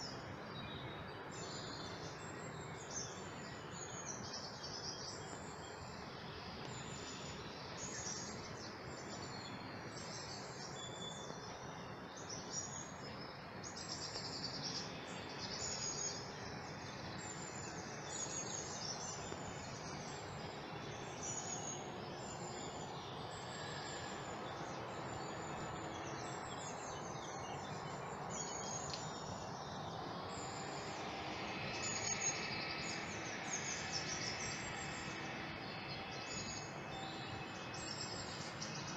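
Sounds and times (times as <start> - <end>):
outdoor background hiss: 0.0 - 38.9
small birds chirping: 0.0 - 38.9.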